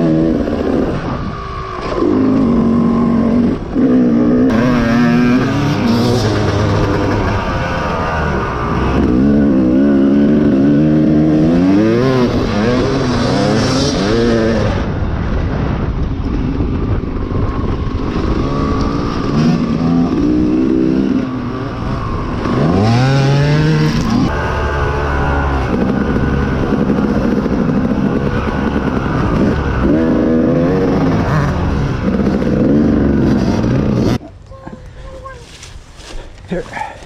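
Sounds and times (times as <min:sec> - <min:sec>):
dirt bike engine revving: 0:00.0 - 0:15.4, 0:16.5 - 0:34.2.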